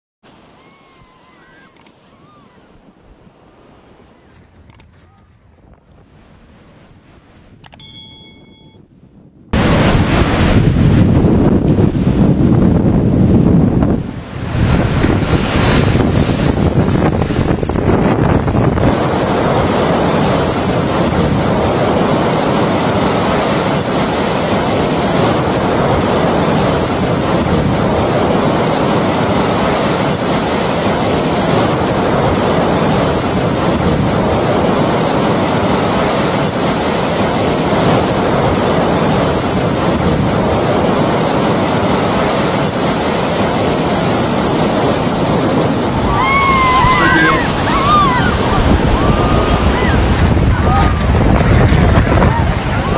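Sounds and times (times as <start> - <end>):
heavy surf: 0.2 - 52.9
wind buffeting microphone: 0.4 - 52.9.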